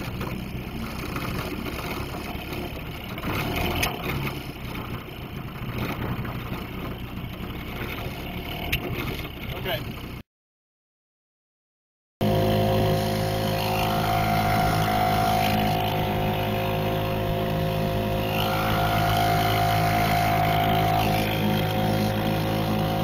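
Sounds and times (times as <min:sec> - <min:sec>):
outboard motor running: 0:00.0 - 0:10.2, 0:12.2 - 0:23.0.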